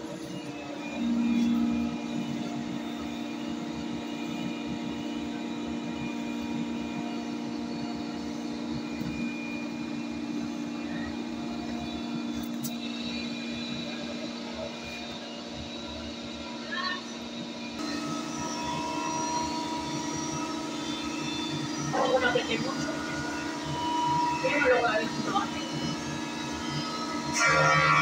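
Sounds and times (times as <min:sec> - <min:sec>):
machine hum with low tone: 0:00.0 - 0:28.0.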